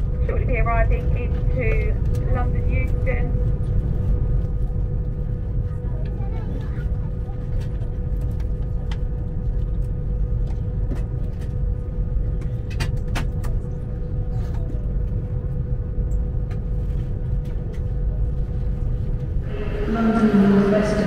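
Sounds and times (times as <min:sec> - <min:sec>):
constant hum: 0:00.0 - 0:21.0
train rumbling on rails: 0:00.0 - 0:21.0.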